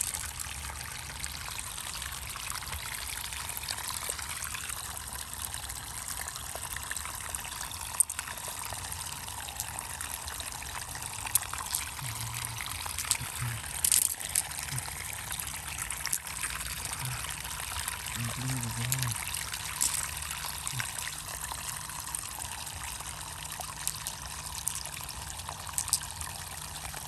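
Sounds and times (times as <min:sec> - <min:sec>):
water trickling and pouring: 0:00.0 - 0:27.0.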